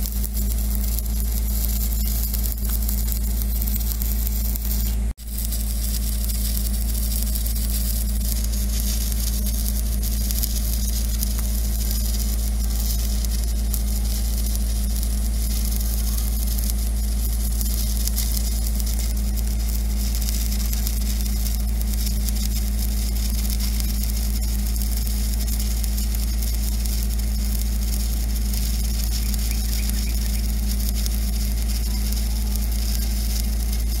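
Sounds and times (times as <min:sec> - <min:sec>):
low electrical hum: 0:00.0 - 0:34.0
welding arc hissing: 0:00.0 - 0:34.0.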